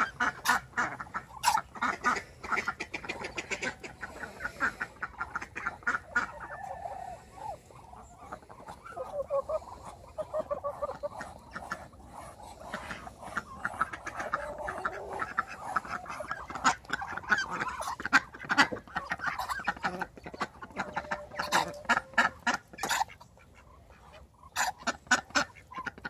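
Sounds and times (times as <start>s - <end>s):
ducks and chickens calling: 0.0s - 26.0s.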